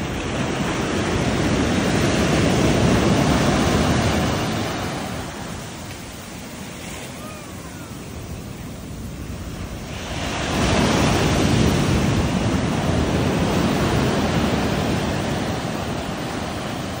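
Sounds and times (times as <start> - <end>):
ocean waves washing on beach: 0.0 - 17.0
wave breaking: 0.0 - 17.0.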